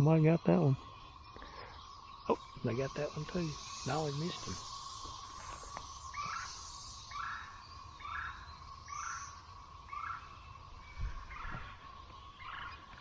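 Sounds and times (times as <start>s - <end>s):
cicadas droning: 0.0s - 13.0s
short repeating cicada call: 0.0s - 13.0s.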